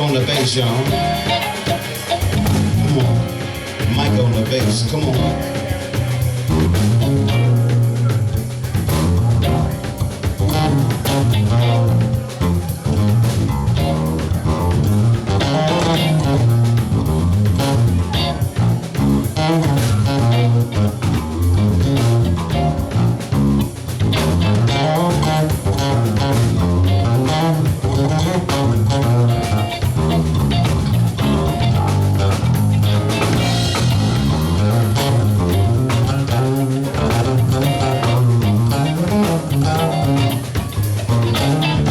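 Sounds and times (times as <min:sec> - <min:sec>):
electric bass guitar line: 0:00.0 - 0:41.9
live band playing: 0:00.0 - 0:41.9.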